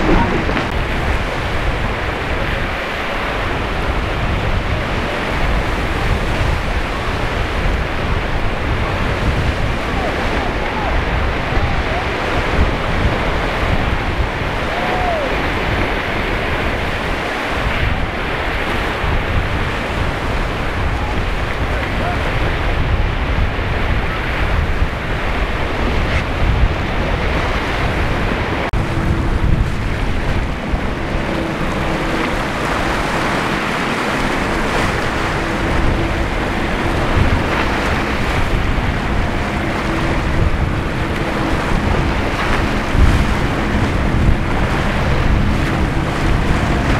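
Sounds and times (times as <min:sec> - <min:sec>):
boat engine droning: 0:00.0 - 0:46.9
surf and waves washing: 0:00.0 - 0:46.9
wind buffeting microphone: 0:00.0 - 0:46.9.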